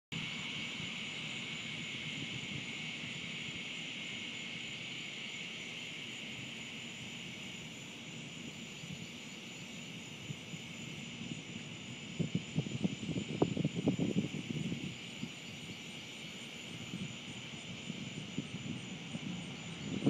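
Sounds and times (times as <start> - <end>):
insects buzzing: 0.2 - 20.0.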